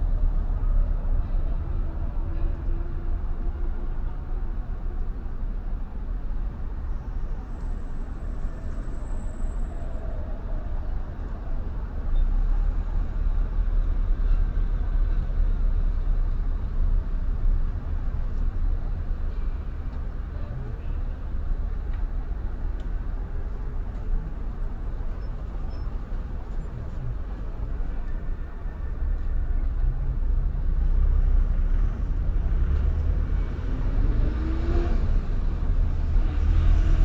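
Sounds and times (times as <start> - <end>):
car road rumble: 0.0 - 37.0
traffic noise: 0.0 - 37.0.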